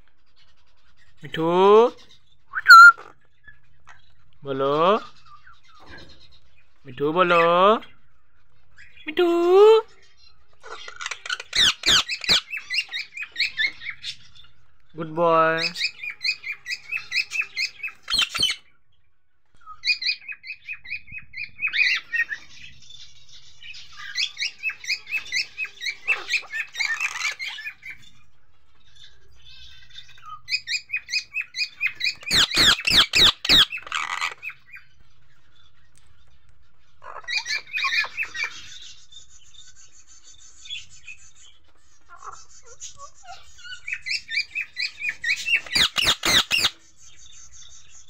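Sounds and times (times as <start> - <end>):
parakeets chattering: 0.1 - 48.0.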